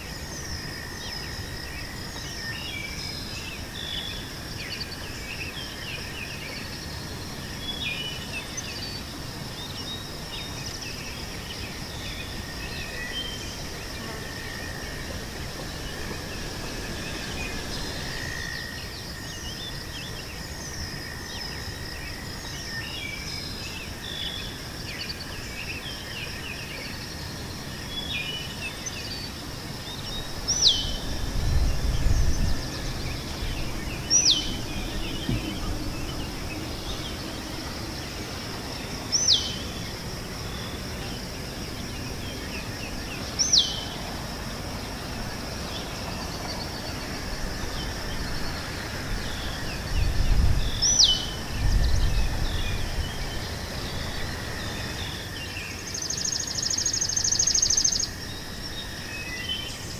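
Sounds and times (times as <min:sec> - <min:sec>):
small birds chirping: 0:00.0 - 0:44.2, 0:44.8 - 0:59.9
high insect drone: 0:00.0 - 0:59.9
lower insect tone: 0:00.0 - 0:59.9.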